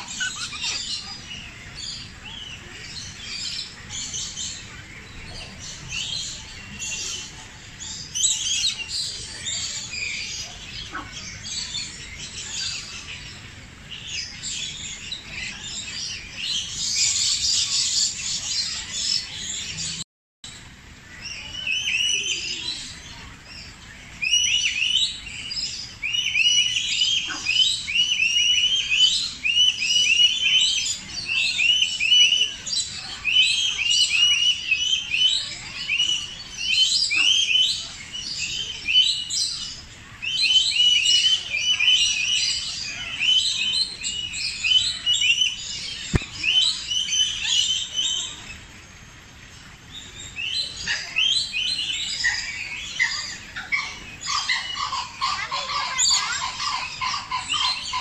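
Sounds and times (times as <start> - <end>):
birds chirping: 0.0 - 20.0, 20.6 - 58.0.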